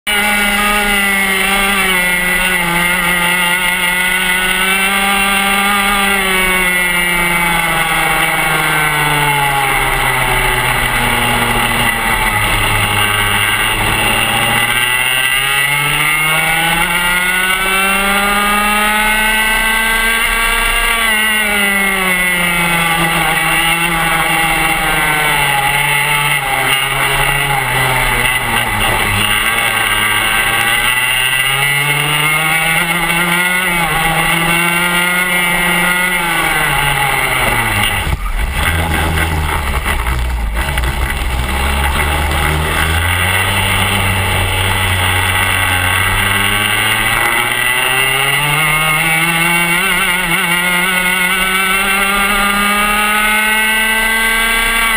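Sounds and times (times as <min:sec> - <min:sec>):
two-stroke kart engine racing: 0:00.0 - 0:54.9.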